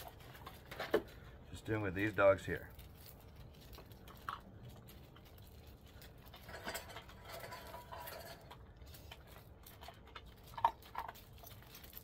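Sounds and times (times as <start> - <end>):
dogs eating crunches: 0.0 - 12.0.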